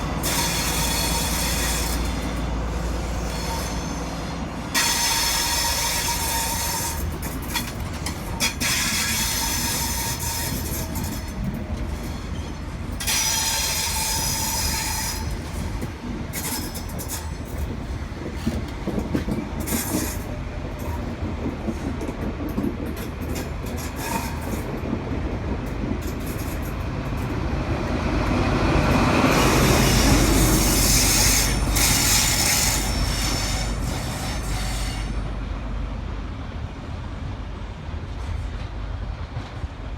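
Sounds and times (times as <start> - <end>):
train wheels squealing on rails: 0.0 - 35.6.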